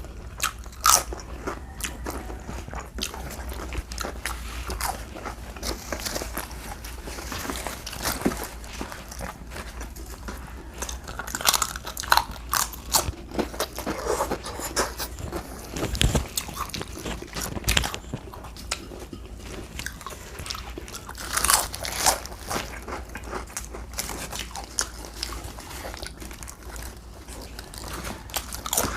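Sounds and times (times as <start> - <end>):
crunchy bites and chewing: 0.0 - 28.9.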